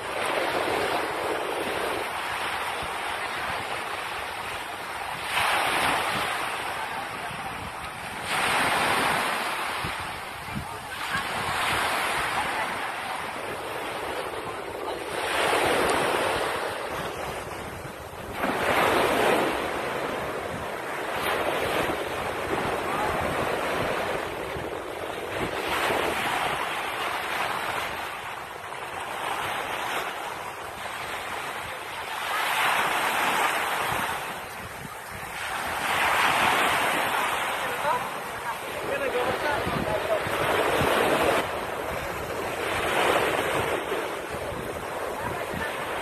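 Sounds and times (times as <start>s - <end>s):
surf washing up on beach: 0.0s - 46.0s
wind buffeting microphone: 0.0s - 46.0s.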